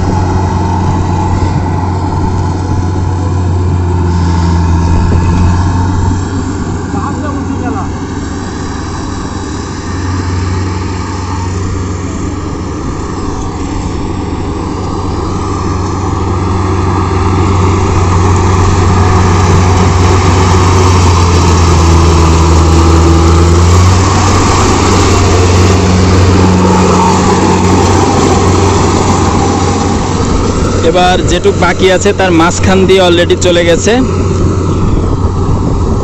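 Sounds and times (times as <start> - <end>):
combine harvester engine hum: 0.0 - 36.0.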